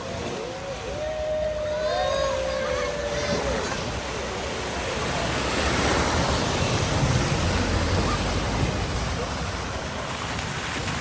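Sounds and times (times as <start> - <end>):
water splashing and surging: 0.0 - 11.0.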